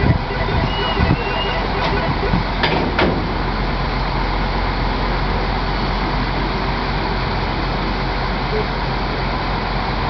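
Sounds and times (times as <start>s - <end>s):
distant road traffic: 0.0s - 10.0s.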